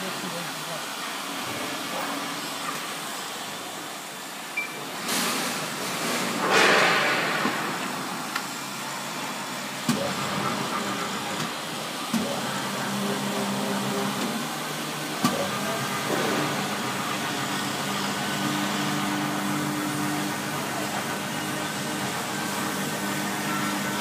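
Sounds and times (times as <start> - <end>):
workshop hum: 0.0 - 24.0.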